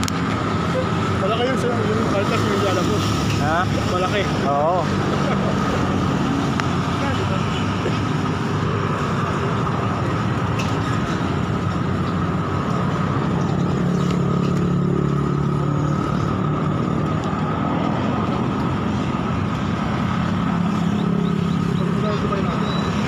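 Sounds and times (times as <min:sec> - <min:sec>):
motorcycles and cars passing: 0:00.0 - 0:23.0.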